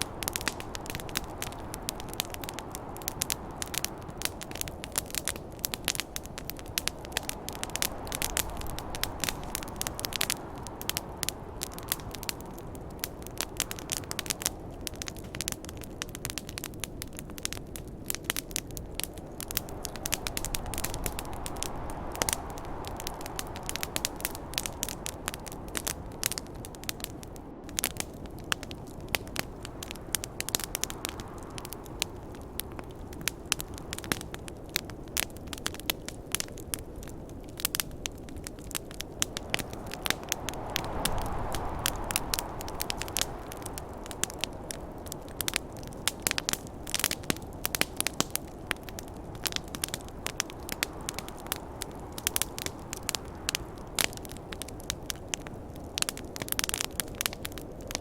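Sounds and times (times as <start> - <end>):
snowstorm wind rushing: 0.0 - 58.0
wood fire crackling: 0.0 - 58.0.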